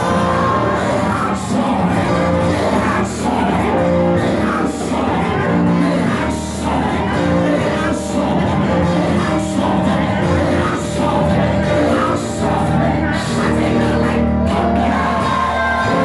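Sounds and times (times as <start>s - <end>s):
church band worship music: 0.0s - 16.0s
voices singing and shouting: 0.0s - 16.0s.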